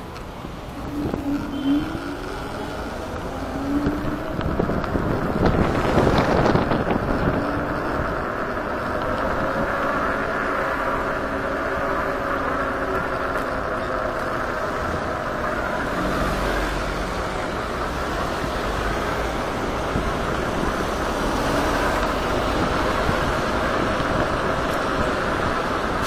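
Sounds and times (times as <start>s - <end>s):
road and traffic noise: 0.0s - 26.0s
wind rushing over microphone: 0.0s - 26.0s.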